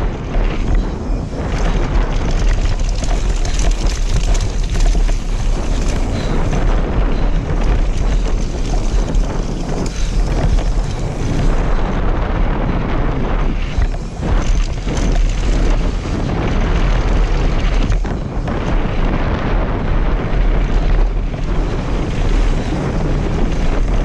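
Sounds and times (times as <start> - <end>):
bike rattling and knocking: 0.0 - 24.0
tyres crunching on gravel: 0.0 - 24.0
wind buffeting microphone: 0.0 - 24.0.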